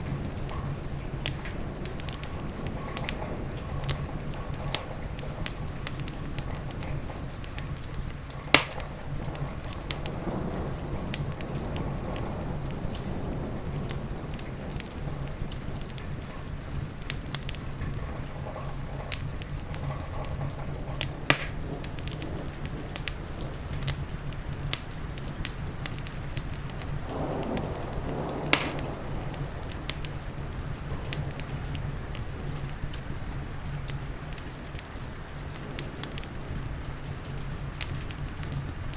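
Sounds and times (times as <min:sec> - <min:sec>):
low even rumble: 0:00.0 - 0:38.9
steady rain: 0:00.0 - 0:38.9
wood fire crackling and popping: 0:00.0 - 0:38.9.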